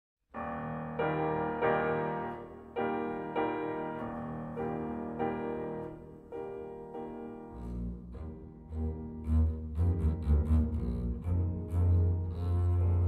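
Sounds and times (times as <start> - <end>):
slow piano chords: 0.4 - 13.0
low bowed strings: 1.0 - 13.0.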